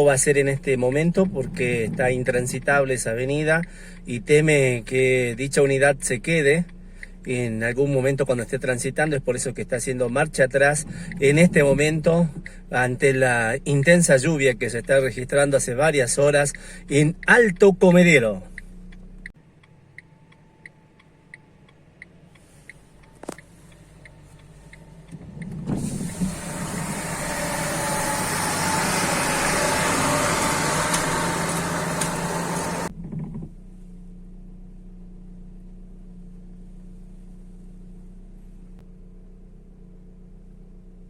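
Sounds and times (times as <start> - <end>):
turn signal ticking: 0.0 - 33.5
low engine hum: 0.0 - 41.0.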